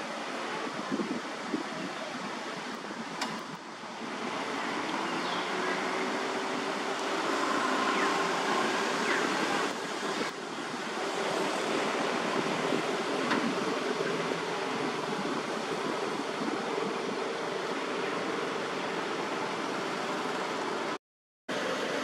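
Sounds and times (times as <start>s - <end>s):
rushing outdoor background noise: 0.0s - 22.0s.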